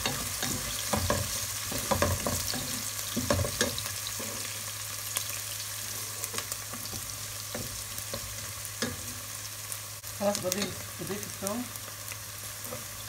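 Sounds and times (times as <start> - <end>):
onion sizzling in pot: 0.0 - 13.0.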